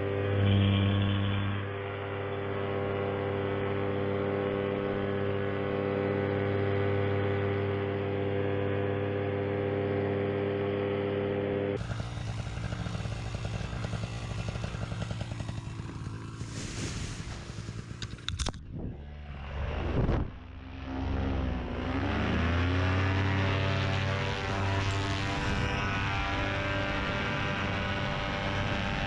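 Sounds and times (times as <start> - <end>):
paramotor engine droning: 0.0 - 29.0.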